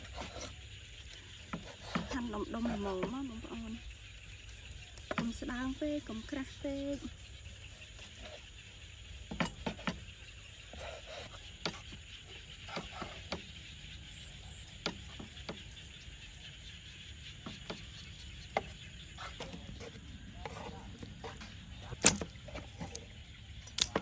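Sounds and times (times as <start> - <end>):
night insects hissing: 0.0 - 24.0.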